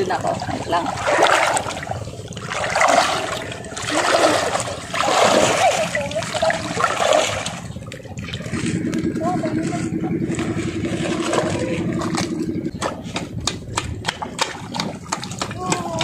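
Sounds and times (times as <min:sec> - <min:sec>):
seawater sloshing and splashing: 0:00.0 - 0:16.0.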